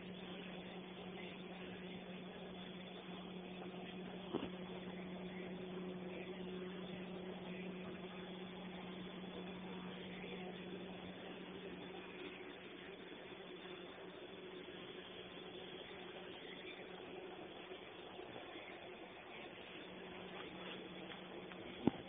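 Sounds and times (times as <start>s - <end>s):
constant hiss: 0.0s - 22.0s
heater humming: 0.0s - 22.0s.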